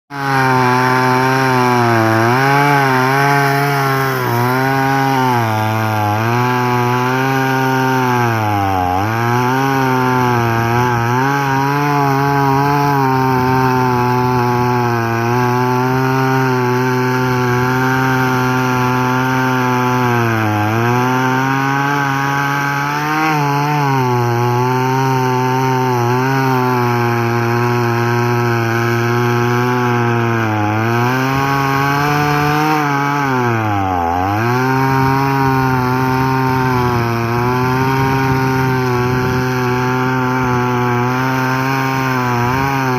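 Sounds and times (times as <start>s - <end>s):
chainsaw cutting wood: 0.1s - 42.9s.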